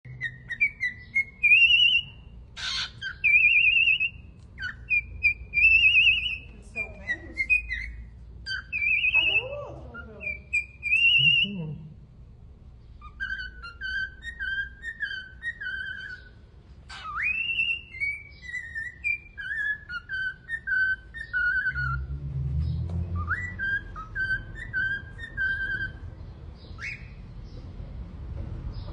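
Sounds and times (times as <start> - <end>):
parakeet whistling: 0.1 - 11.8, 12.9 - 22.2, 23.1 - 27.3.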